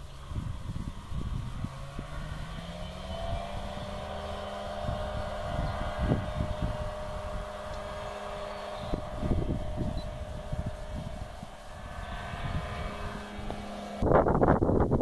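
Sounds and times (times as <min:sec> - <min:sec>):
light aircraft engine running: 0:00.0 - 0:15.0
wind rumble on microphone: 0:00.0 - 0:15.0.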